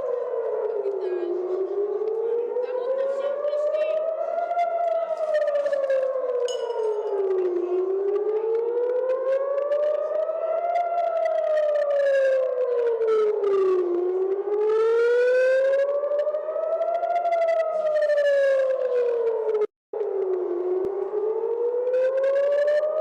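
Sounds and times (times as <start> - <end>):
air-raid siren wailing: 0.0 - 23.0.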